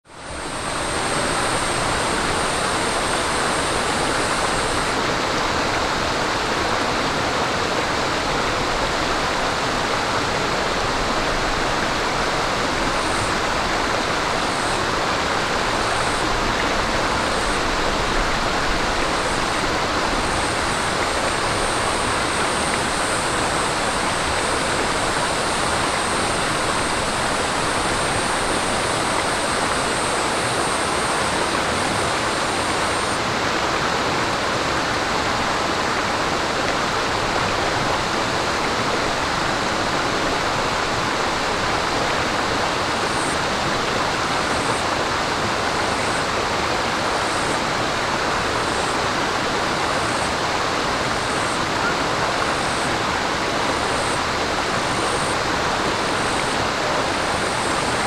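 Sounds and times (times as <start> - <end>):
stream running over rocks: 0.1 - 58.0.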